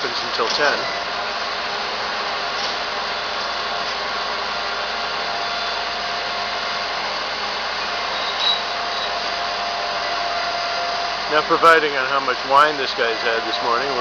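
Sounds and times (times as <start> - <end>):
garbage truck hydraulic whine: 0.0 - 14.0.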